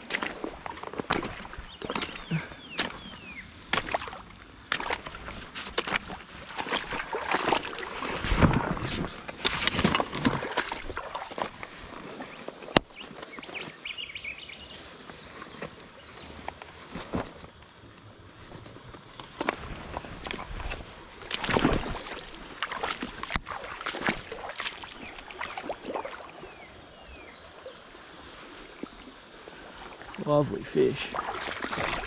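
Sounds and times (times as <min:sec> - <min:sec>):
river water splashing: 0:00.0 - 0:17.7, 0:18.3 - 0:32.0.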